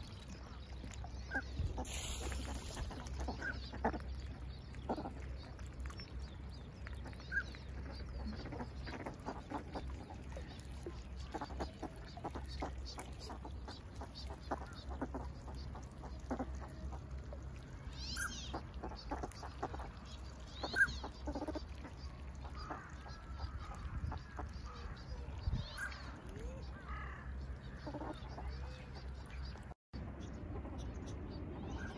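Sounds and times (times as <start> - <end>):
ducks quacking and chirping: 0.0 - 31.9.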